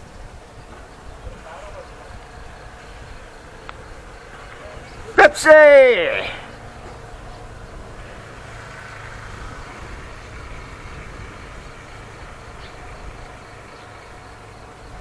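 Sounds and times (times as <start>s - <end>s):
motor engine running: 0.0s - 5.2s, 6.1s - 15.0s.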